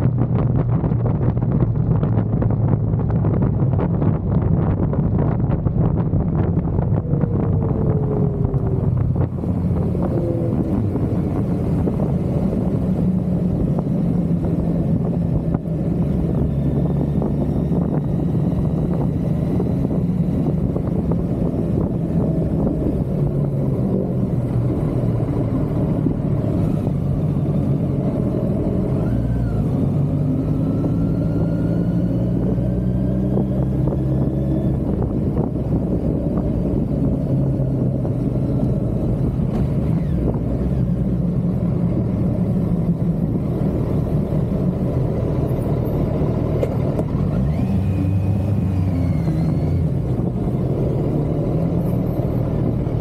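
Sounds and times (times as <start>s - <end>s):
motorcycle engine drone: 0.0s - 53.0s
wind and road rush: 0.0s - 53.0s.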